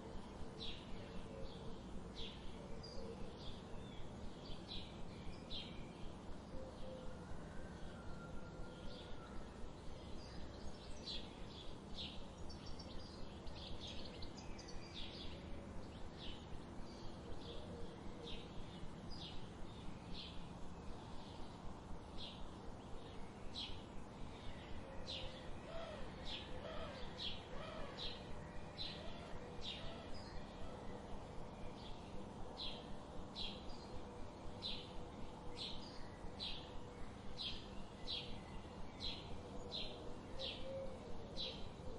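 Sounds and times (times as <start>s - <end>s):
songbirds chipping: 0.0s - 41.9s.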